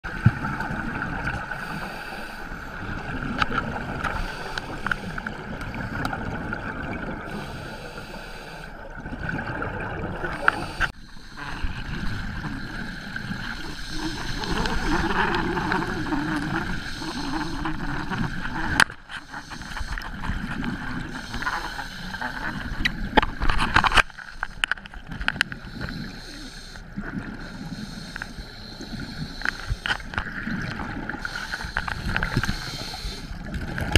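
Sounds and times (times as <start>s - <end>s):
water gurgling and splashing: 0.0s - 33.9s.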